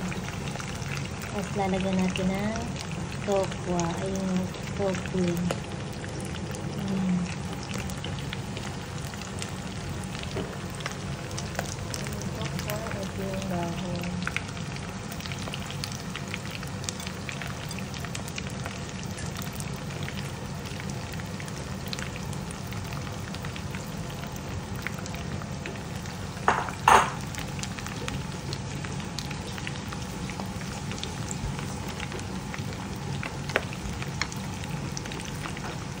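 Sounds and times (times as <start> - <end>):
meat sizzling in a frying pan: 0.0 - 36.0.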